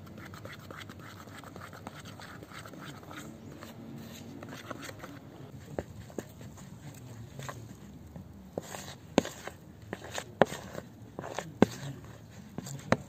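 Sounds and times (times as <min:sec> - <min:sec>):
spoon scraping dough in bowl: 0:00.0 - 0:13.0.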